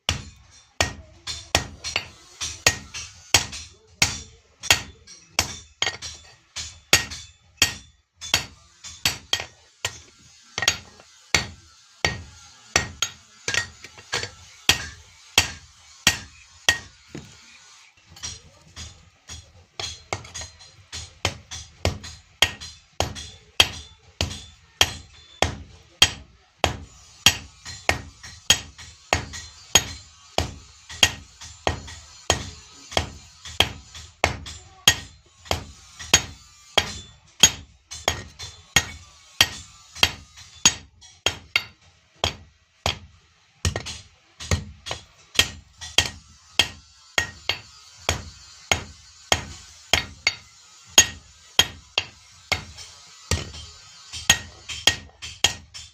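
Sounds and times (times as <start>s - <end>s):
hammer striking iron on anvil: 0.0s - 55.9s.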